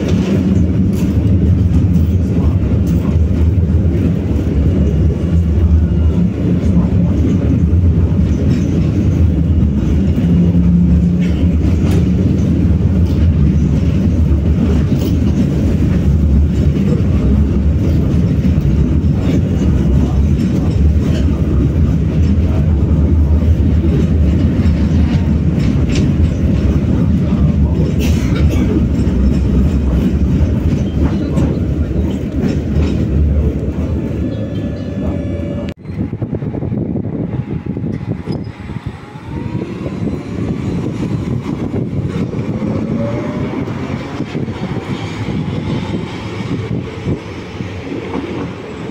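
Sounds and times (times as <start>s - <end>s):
tram wheels rumbling: 0.0s - 48.9s.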